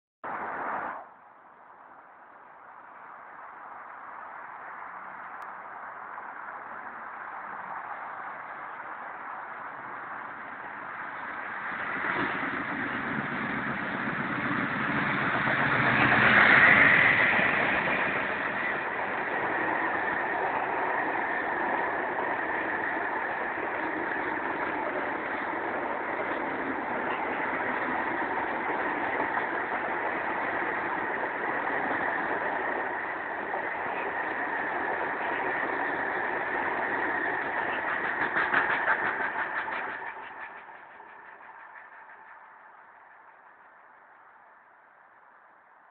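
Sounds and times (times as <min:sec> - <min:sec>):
train wheels rolling on rails: 0:03.7 - 0:44.6
diesel locomotive engine accelerating: 0:04.7 - 0:45.3.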